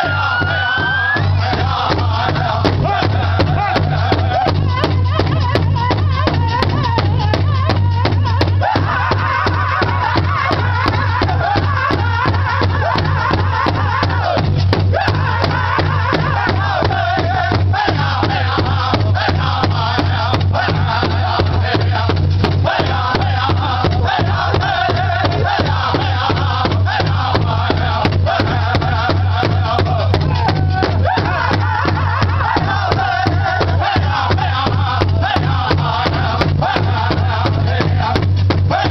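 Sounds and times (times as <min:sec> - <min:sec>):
bass drum steady beat: 0:00.0 - 0:38.9
group singing high in unison: 0:00.0 - 0:38.9.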